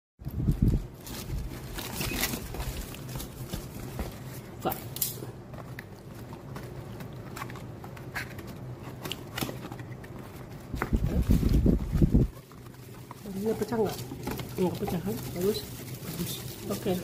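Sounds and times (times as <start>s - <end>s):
cardboard and plastic rustling: 0.2s - 17.0s.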